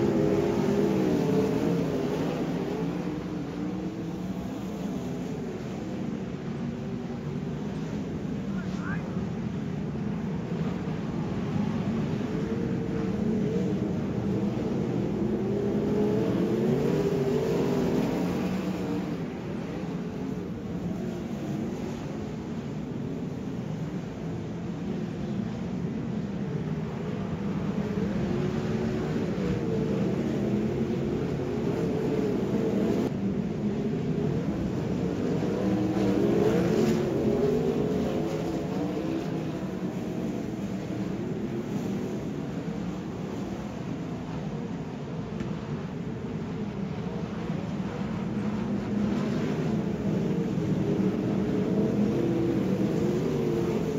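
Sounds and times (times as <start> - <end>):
racing car engines: 0.0 - 53.9.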